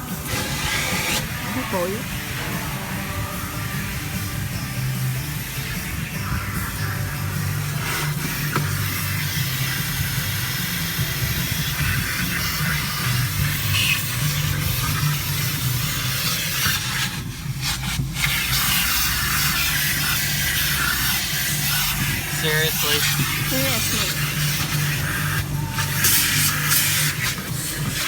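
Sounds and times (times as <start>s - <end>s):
water jets spraying: 0.0s - 28.0s.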